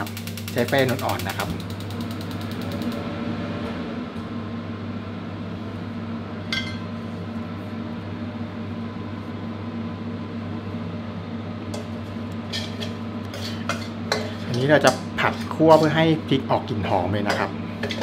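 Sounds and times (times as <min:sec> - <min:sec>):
electric hob hum: 0:00.0 - 0:18.0.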